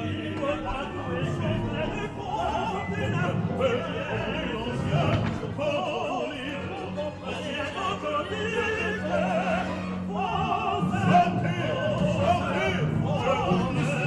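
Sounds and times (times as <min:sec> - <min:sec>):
baritone singing: 0:00.0 - 0:14.0
opera singing with vibrato: 0:00.0 - 0:14.0.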